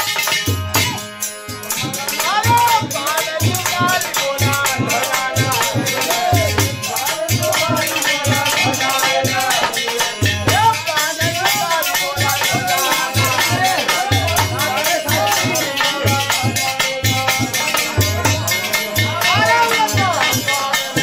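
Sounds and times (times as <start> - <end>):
hand drum beating: 0.0 - 21.0
harmonium: 0.0 - 21.0
rattling hand percussion: 0.0 - 21.0
man singing: 0.4 - 21.0.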